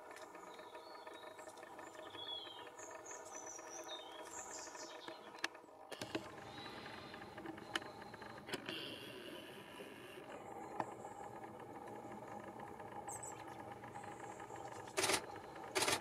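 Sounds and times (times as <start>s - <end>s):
low hum: 0.0s - 16.0s
birds chirping: 0.3s - 9.2s, 10.4s - 15.7s.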